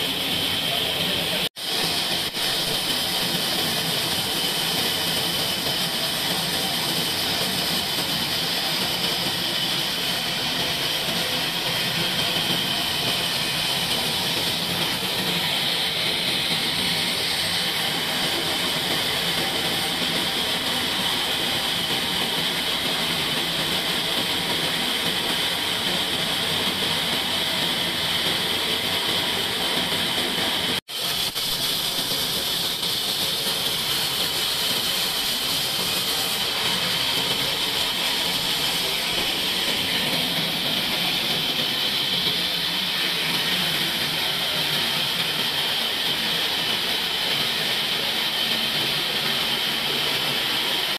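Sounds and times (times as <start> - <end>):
sawmill machine drone: 0.0 - 50.9.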